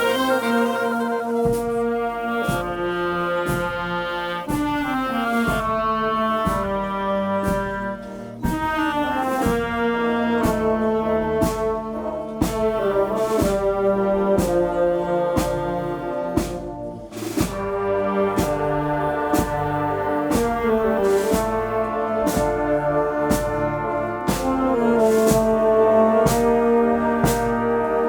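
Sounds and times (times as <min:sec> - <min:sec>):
brass sustaining chords: 0:00.0 - 0:28.0
march drum beat: 0:00.0 - 0:28.0.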